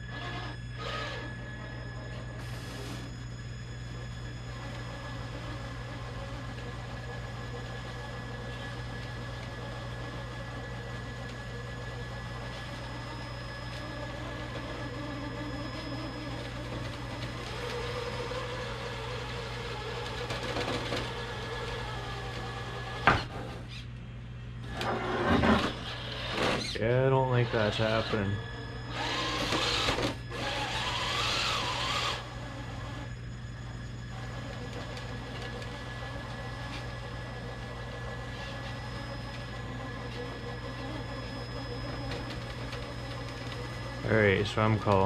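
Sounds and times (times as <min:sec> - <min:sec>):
toy car motor whining: 0:00.0 - 0:23.0, 0:24.7 - 0:45.0.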